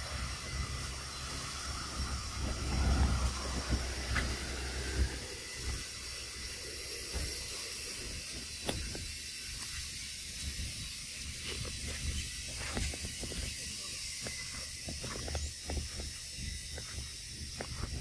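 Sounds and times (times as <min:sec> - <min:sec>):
steady high hiss: 0:00.0 - 0:18.0
wind rumbling on microphone: 0:00.0 - 0:18.0.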